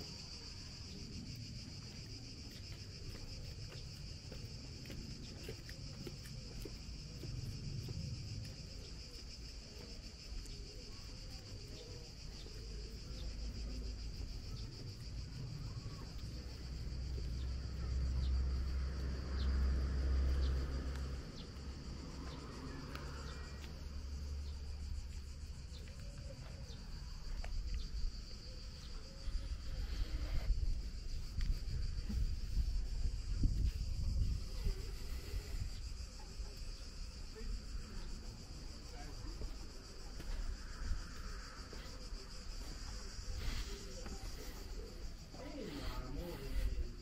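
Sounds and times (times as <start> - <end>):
insects calling: 0.0 - 47.0.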